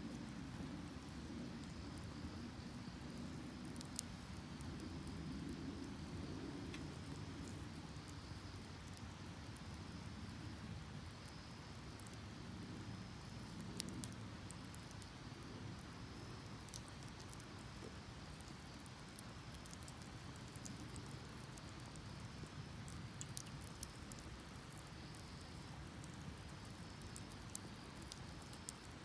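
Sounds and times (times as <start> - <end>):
faint insect trill: 0.0 - 29.0
wood fire crackling and popping: 0.0 - 29.0.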